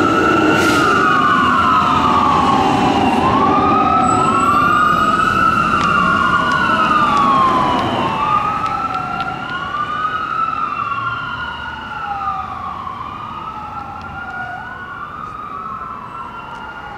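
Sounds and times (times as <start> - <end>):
fire engine siren wailing: 0.0 - 16.9.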